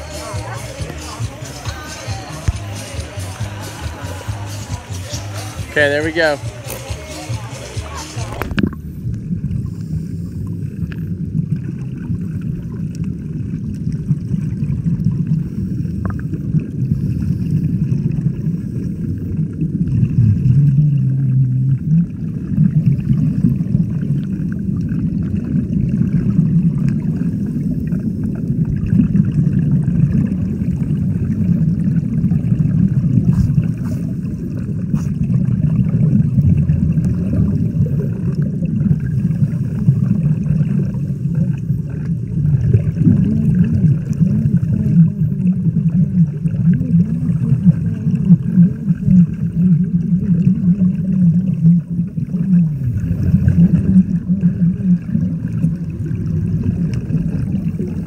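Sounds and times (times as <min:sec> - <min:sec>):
muffled underwater water rushing: 0:00.0 - 0:58.0.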